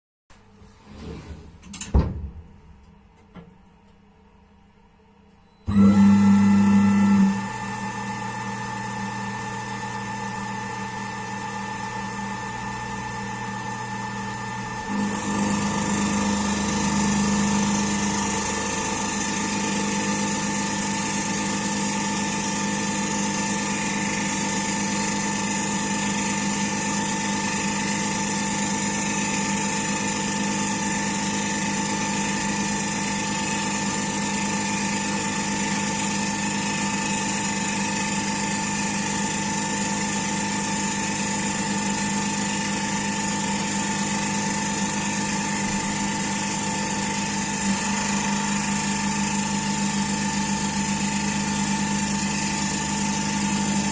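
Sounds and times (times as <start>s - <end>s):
milling machine whine: 5.5s - 53.9s.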